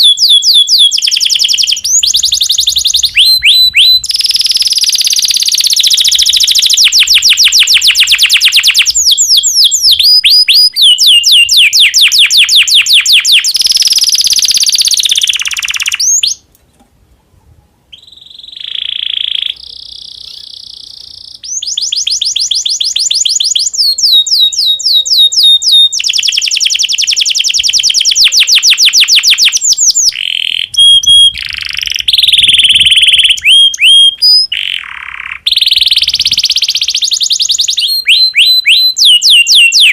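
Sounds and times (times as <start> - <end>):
canary singing trills: 0.0 - 16.5, 17.9 - 39.9.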